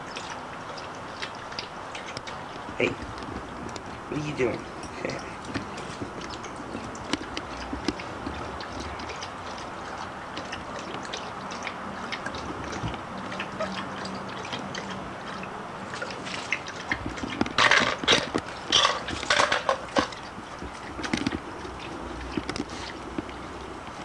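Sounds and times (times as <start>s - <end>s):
puppies scratching and rustling: 0.0s - 24.0s.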